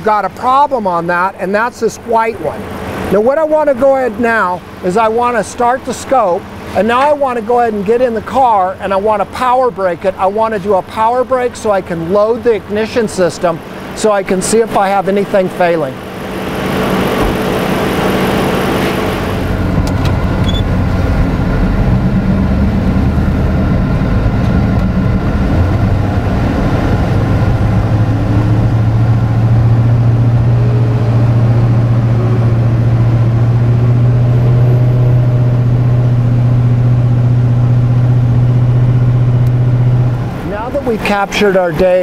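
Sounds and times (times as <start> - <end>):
car engine running with misfire: 0.0 - 42.0.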